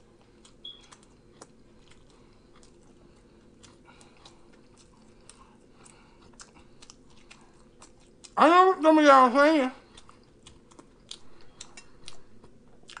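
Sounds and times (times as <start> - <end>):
person chewing food: 0.0 - 8.4, 9.8 - 13.0.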